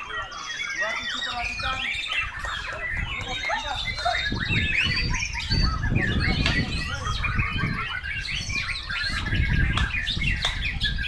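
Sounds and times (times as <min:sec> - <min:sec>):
birds singing chirps and whistles: 0:00.0 - 0:11.0.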